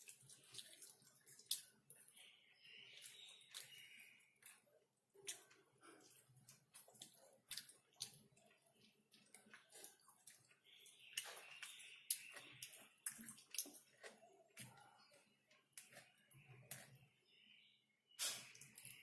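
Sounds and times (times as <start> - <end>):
wet chewing and mouth smacking: 0.0 - 17.0.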